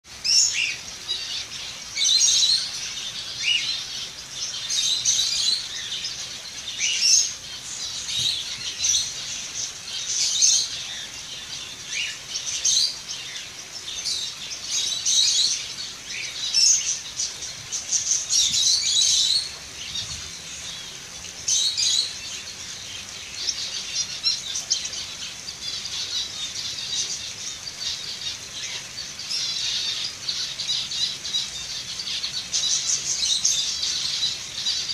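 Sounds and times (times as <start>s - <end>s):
finches calling: 0.1s - 34.9s.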